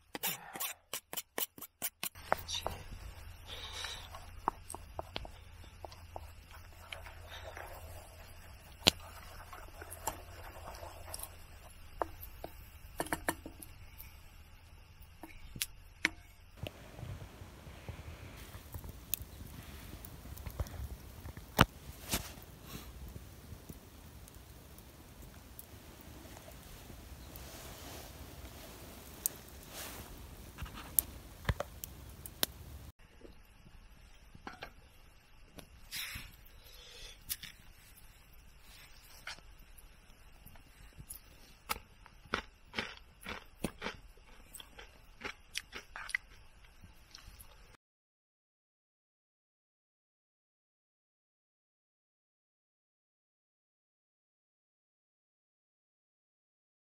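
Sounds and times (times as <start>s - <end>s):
campfire crackling: 0.0s - 47.7s.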